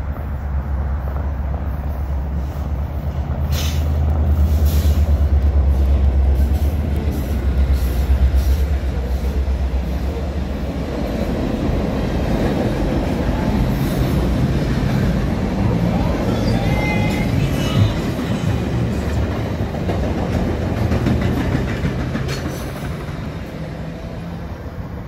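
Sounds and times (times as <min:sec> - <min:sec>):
diesel locomotive engine rumble: 0:00.0 - 0:25.0
train wheel and rail noise: 0:00.0 - 0:25.0.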